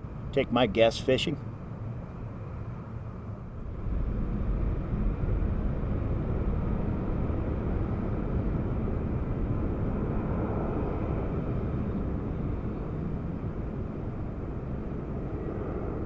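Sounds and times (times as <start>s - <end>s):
jet engines at takeoff thrust: 1.0s - 16.0s.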